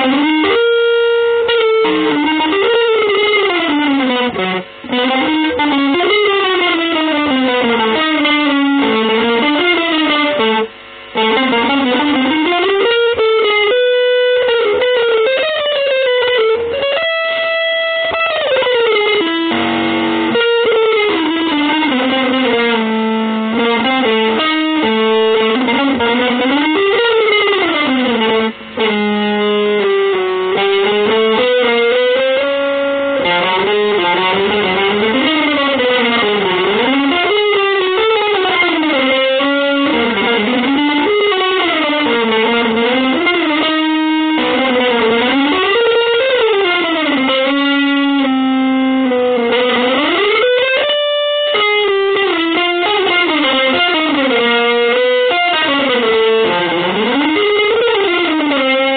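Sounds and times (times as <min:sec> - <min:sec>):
electric guitar sliding melody: 0:00.0 - 0:58.9.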